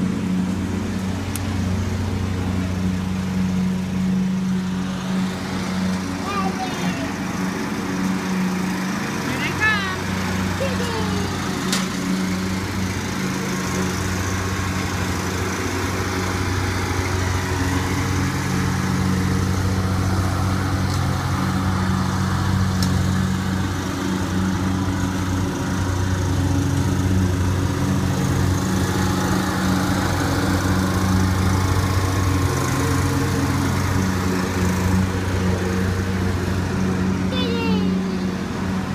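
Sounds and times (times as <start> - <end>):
riding lawn mower engine: 0.0 - 38.9.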